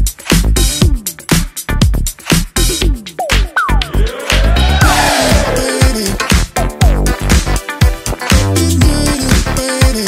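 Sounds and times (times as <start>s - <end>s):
electronic dance music: 0.3s - 10.0s.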